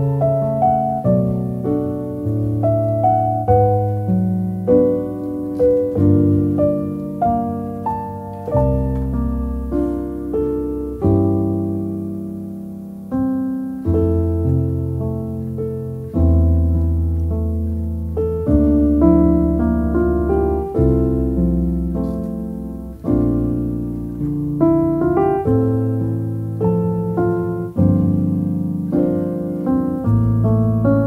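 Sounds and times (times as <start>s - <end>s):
slow piano chords: 0.0s - 31.0s.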